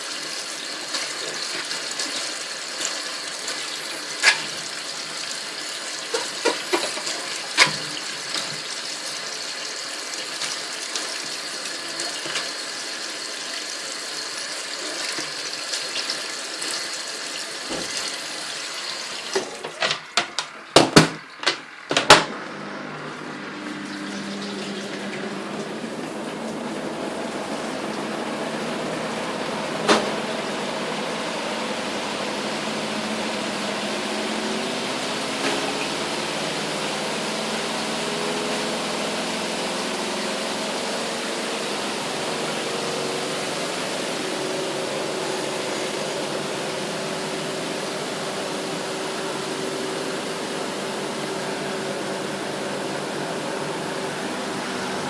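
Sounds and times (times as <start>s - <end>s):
water running in washing machine: 0.0s - 55.0s.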